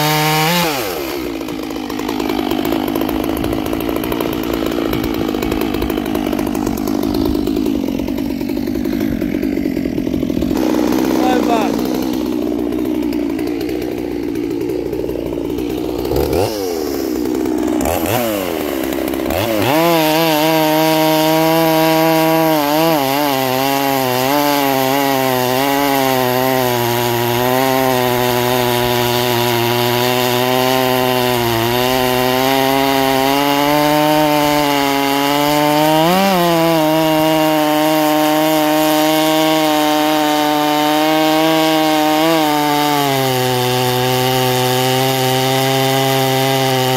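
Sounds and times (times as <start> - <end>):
chain cutting through log: 0.0 - 46.9
chainsaw revving: 0.0 - 46.9.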